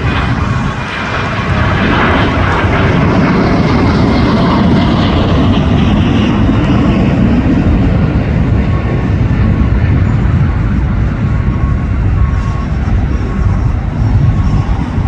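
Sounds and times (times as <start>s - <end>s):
jet airliner engines passing: 0.0s - 15.0s.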